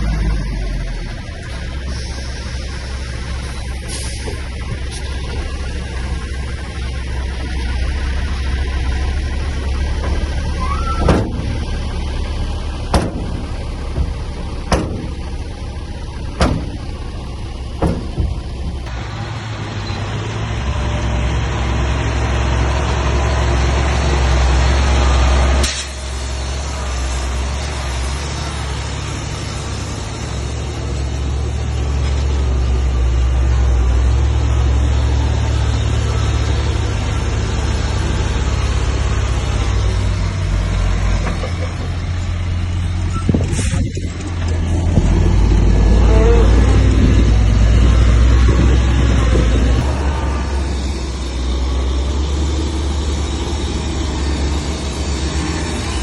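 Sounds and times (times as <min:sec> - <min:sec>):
heavy diesel machinery rumbling: 0:00.0 - 0:56.0.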